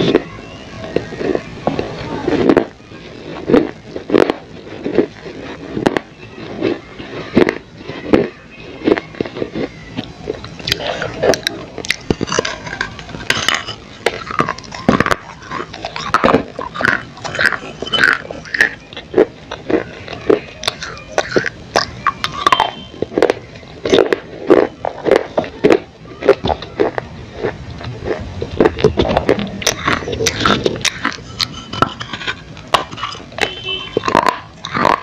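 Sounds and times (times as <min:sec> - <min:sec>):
person crunching clay: 0:00.0 - 0:35.0.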